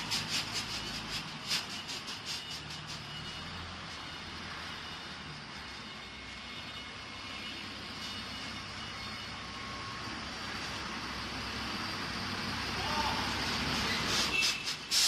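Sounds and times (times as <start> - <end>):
diesel generator engine droning: 0.0 - 14.9.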